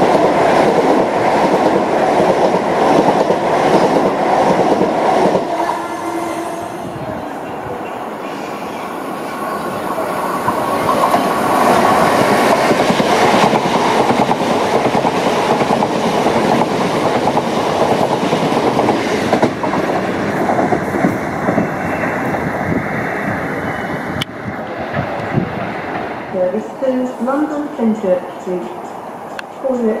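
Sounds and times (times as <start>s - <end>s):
electric train passing close: 0.0s - 30.0s.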